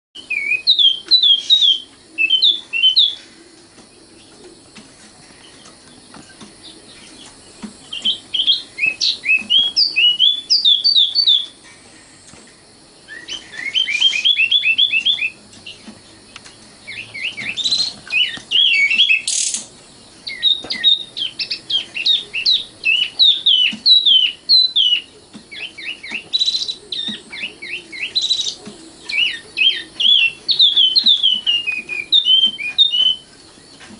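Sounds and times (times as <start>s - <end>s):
nightingale singing: 0.2s - 33.9s.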